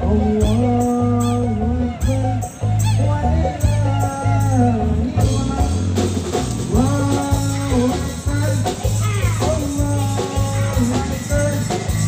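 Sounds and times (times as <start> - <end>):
drums: 0.0 - 12.0
live band playing amplified music: 0.0 - 12.0
sliding melody line: 0.0 - 12.0.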